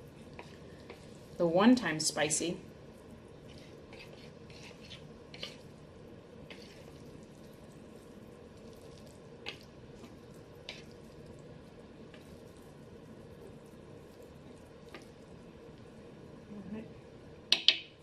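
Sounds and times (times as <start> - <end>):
chopsticks mixing noodles: 0.0 - 16.0
low room hum: 0.0 - 18.0.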